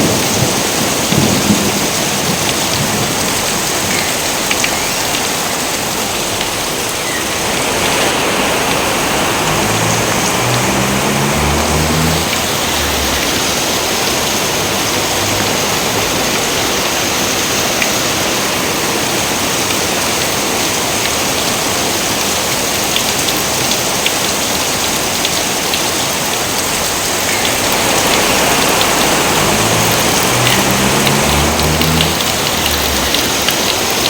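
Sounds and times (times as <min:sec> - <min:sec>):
raindrop ticks: 0:00.0 - 0:18.5, 0:19.1 - 0:34.0
heavy rain falling: 0:00.0 - 0:34.0.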